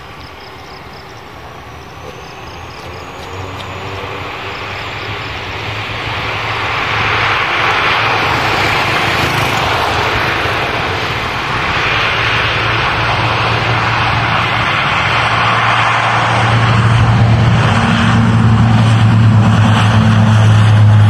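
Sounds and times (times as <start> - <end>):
turboprop airliner engines rushing: 0.0 - 21.0.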